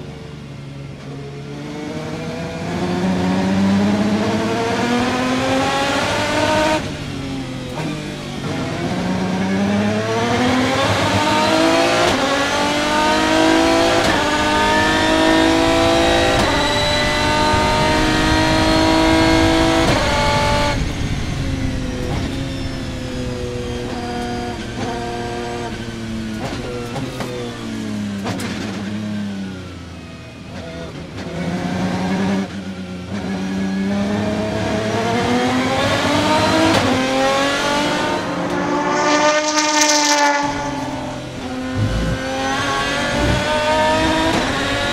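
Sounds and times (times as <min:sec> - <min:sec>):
racing engine revving and shifting: 0:00.0 - 0:44.9.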